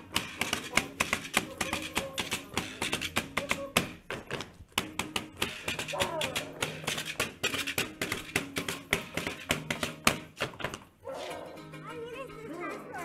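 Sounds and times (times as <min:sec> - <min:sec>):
boots stamping on pavement: 0:00.0 - 0:11.4.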